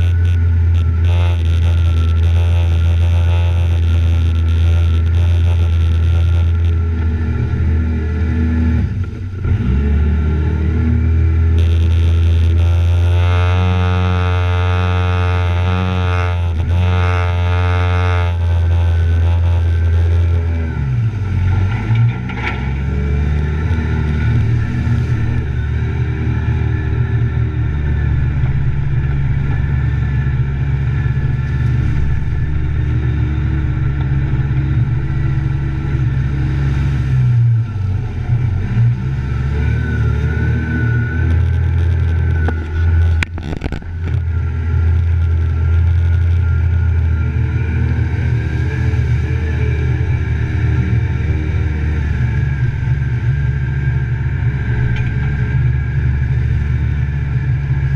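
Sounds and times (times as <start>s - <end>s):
vehicle engine under load: 0.0s - 57.9s.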